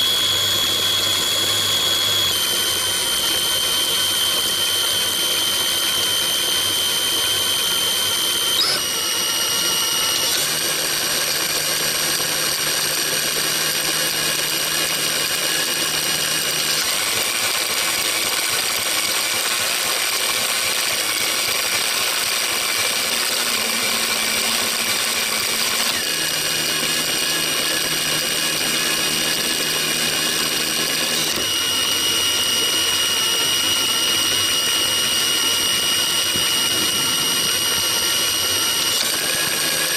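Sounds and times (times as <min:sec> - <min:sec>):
electric motor and gears whining: 0:00.0 - 0:39.9.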